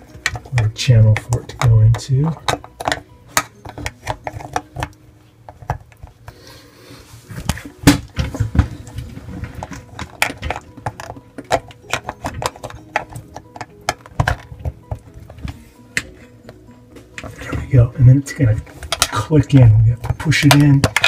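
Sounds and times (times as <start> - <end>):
plastic clicks and knocks: 0.1 - 6.2, 7.4 - 17.7, 18.6 - 19.3, 20.0 - 21.0.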